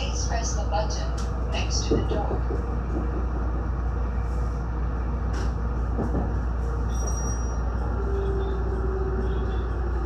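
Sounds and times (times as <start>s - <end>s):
electric train rumble: 0.0s - 10.0s.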